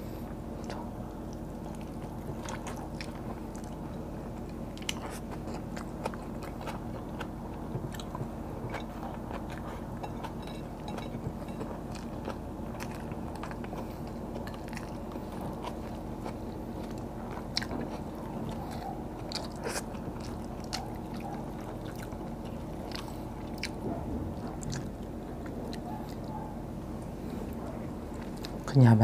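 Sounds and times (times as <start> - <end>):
steady low hum: 0.0 - 29.0
chewing and wet mouth smacks: 0.6 - 26.6, 27.5 - 28.7.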